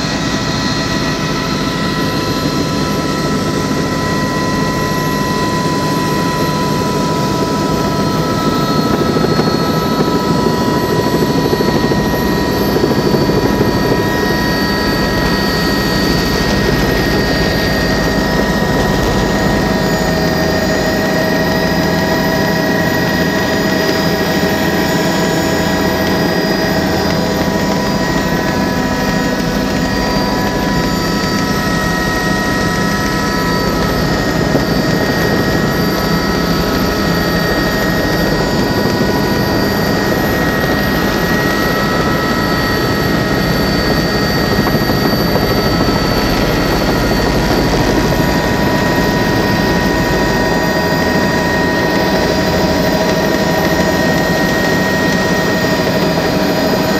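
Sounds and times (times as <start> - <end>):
helicopter engine and rotor drone: 0.0 - 56.9
high steady whining tones: 0.0 - 56.9.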